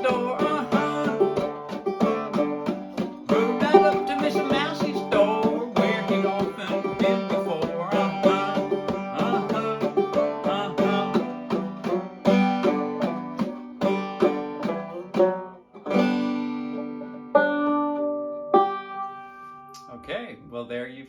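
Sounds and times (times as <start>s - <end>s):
banjo plucking and strumming: 0.0s - 19.9s.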